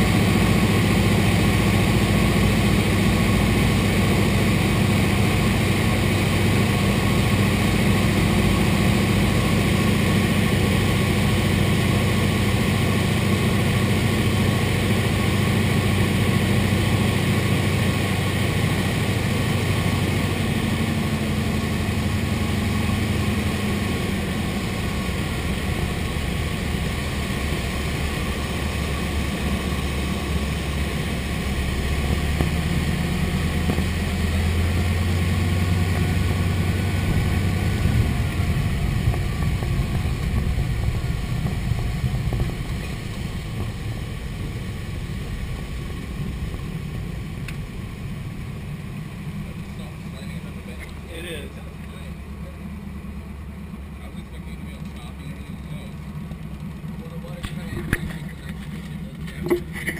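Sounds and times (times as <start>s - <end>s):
propeller plane engine droning: 0.0s - 59.9s.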